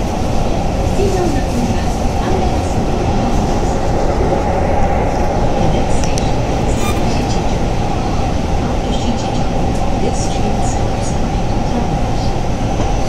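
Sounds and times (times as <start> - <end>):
train wheels rumbling in a tunnel: 0.0 - 13.0.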